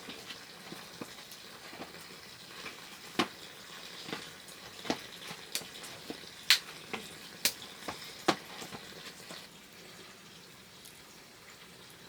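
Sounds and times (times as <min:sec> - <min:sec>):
bread frying in hot oil: 0:00.0 - 0:12.0.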